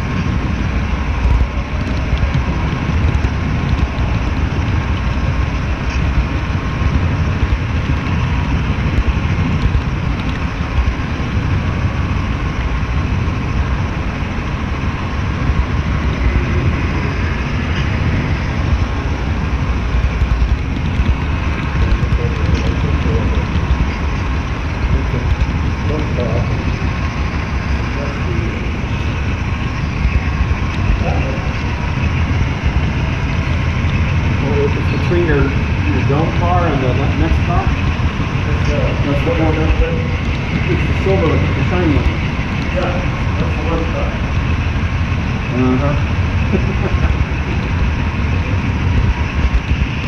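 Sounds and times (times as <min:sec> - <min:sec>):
model train wheels rumbling: 0:00.0 - 0:50.0.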